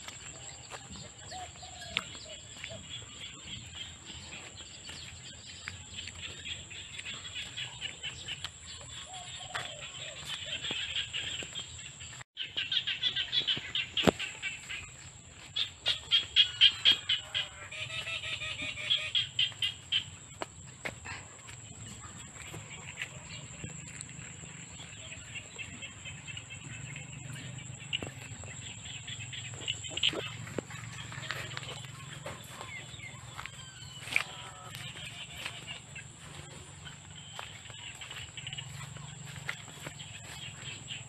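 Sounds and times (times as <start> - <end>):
rhythmic pulsing chirps: 0.0 - 41.0.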